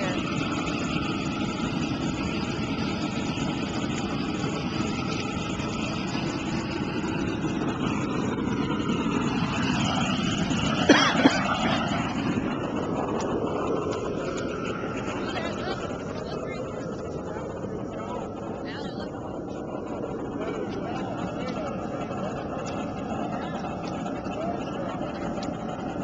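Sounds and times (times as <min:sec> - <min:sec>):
propane burner flame roaring: 0:00.0 - 0:26.0.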